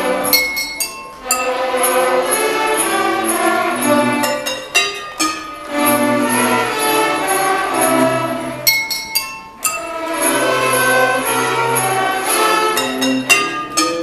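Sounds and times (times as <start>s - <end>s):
kitchenware percussion: 0.0s - 8.0s, 8.6s - 14.0s
children's orchestra playing: 0.0s - 14.0s
sharp percussion strikes: 0.0s - 14.0s.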